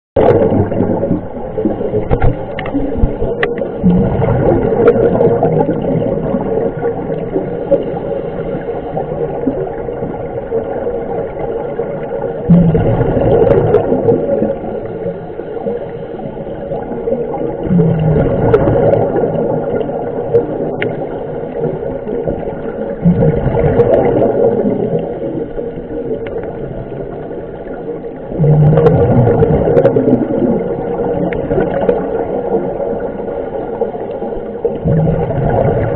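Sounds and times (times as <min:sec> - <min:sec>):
exhaled bubbles rushing: 0:00.2 - 0:35.9.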